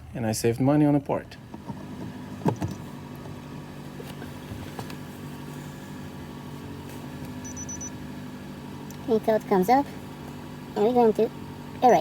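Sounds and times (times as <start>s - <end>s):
car engine idling: 1.2s - 12.0s.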